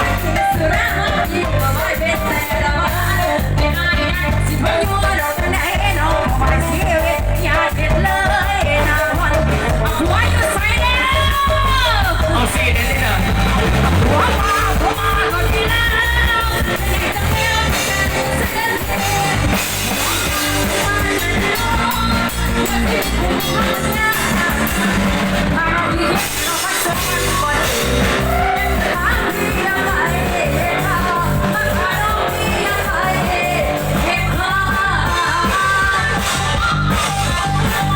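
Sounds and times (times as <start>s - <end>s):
band playing: 0.0s - 37.9s
woman singing: 0.0s - 37.9s.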